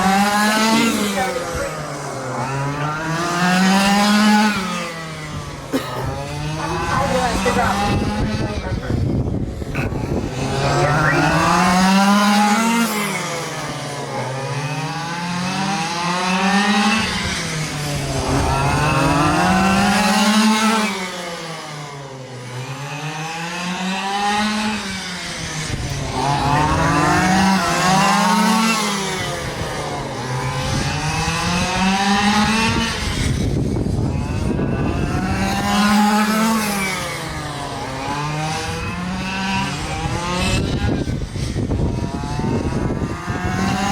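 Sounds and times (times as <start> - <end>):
rc truck engines revving: 0.0 - 43.9.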